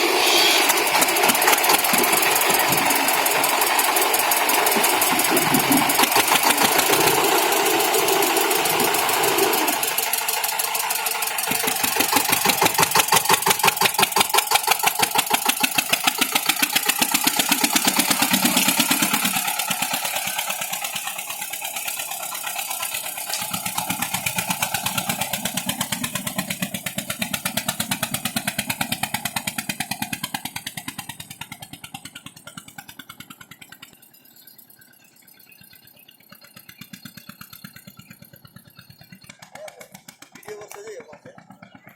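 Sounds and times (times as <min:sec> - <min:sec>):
tractor diesel engine chugging: 0:00.0 - 0:41.9.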